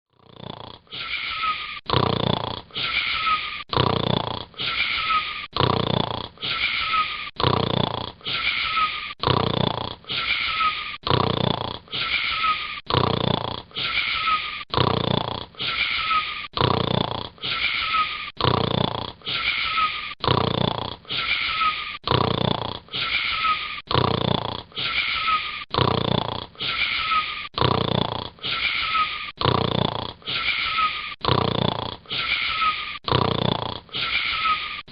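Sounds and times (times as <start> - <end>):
boy snoring: 0.1 - 34.9.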